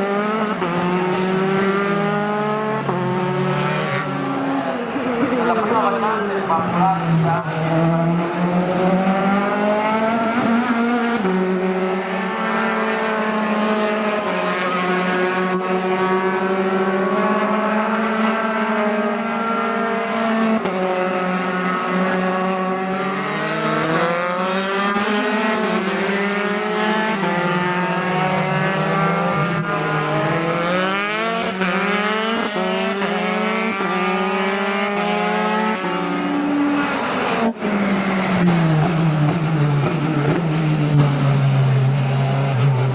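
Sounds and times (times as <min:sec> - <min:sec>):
racing car engines revving: 0:00.0 - 0:42.9.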